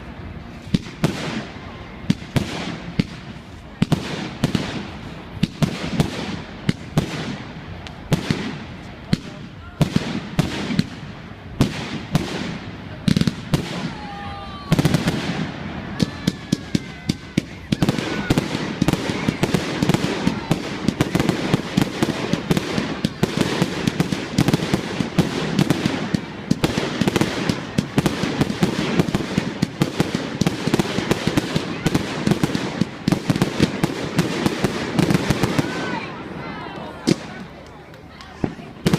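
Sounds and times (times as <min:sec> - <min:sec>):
fireworks bangs: 0:00.0 - 0:38.9
rapid crackling of fireworks: 0:00.0 - 0:38.9.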